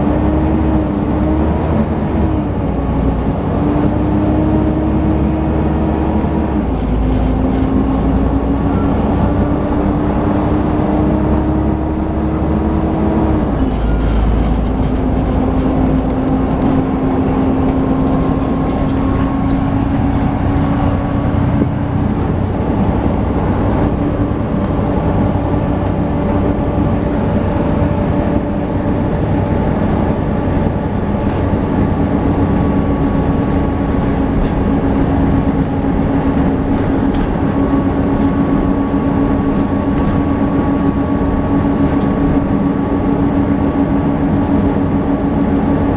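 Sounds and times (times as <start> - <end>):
bus engine with whine: 0.0 - 45.9.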